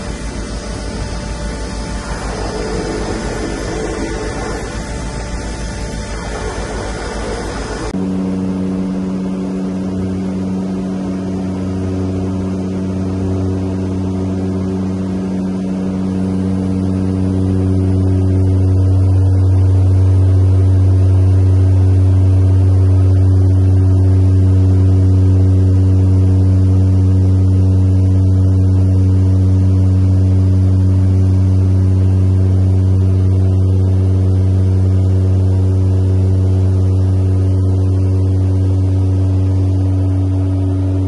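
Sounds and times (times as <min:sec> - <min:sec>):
propeller plane cabin drone: 0:00.0 - 0:41.0.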